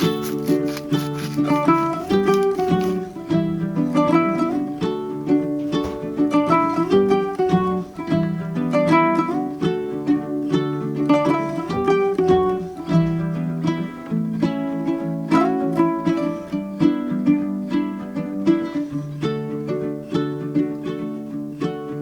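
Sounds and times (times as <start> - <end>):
upbeat plucked-string tune: 0.0 - 22.0.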